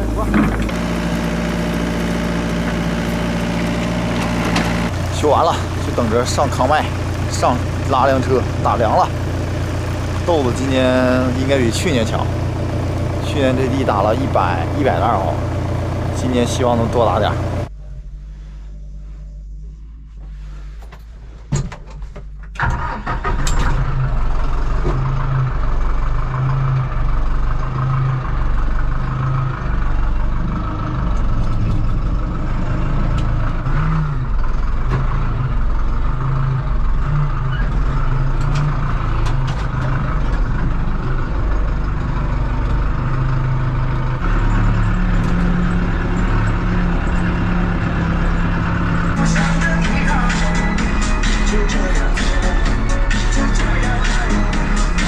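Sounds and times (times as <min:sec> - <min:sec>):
tractor diesel engine drone: 0:00.0 - 0:55.0.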